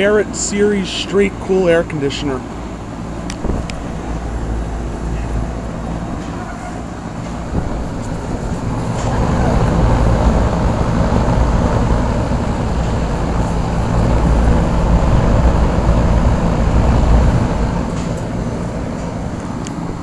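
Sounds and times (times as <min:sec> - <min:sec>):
compressor hum: 0:00.0 - 0:20.0
condenser fan rushing: 0:00.0 - 0:20.0.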